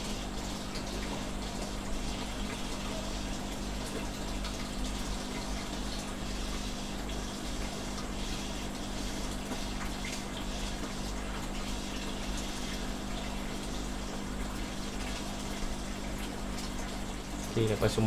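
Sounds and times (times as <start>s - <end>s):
aquarium water bubbling: 0.0s - 18.0s.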